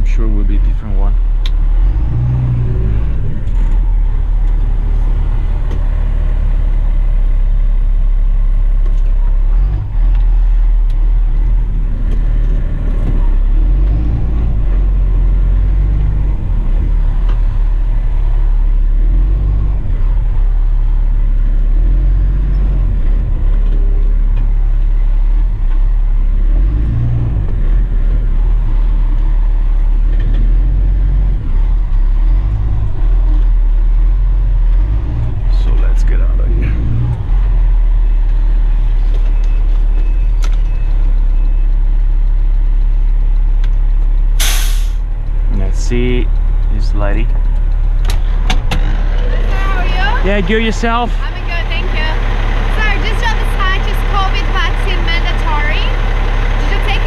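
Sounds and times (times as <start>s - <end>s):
truck diesel engine rumble: 0.0s - 57.0s.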